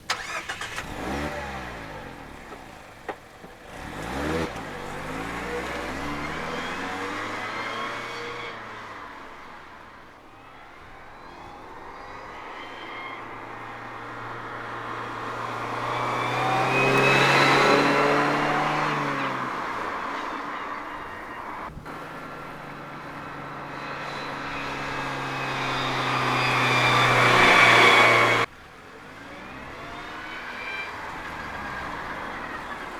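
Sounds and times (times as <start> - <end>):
car engine under load: 0.0 - 32.9
high transmission whine: 0.0 - 32.9.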